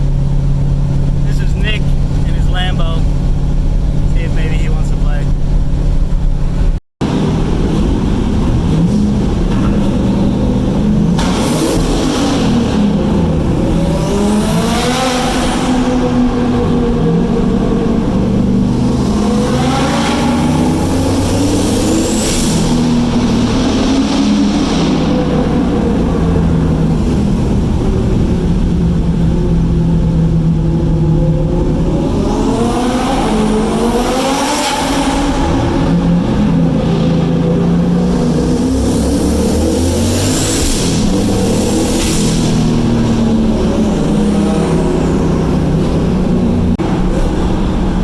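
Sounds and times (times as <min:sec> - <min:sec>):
turbocharged car engine accelerating: 0:00.0 - 0:48.0.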